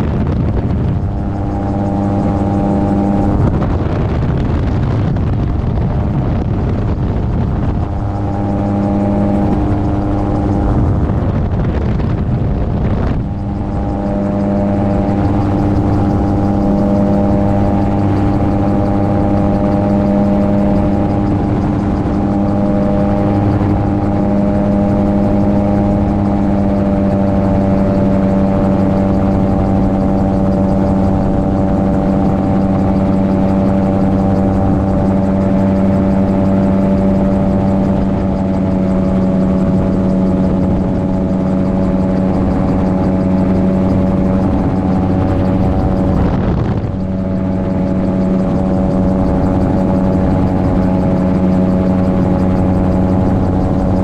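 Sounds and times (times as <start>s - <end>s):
gyroplane engine and propeller: 0.0s - 54.0s
wind rushing over microphone: 0.0s - 54.0s.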